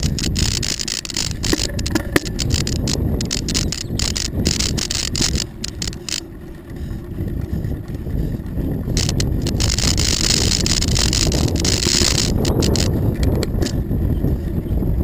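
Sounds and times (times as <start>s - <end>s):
tyres rumbling on pavement: 0.0s - 15.0s
wind buffeting microphone: 0.0s - 15.0s.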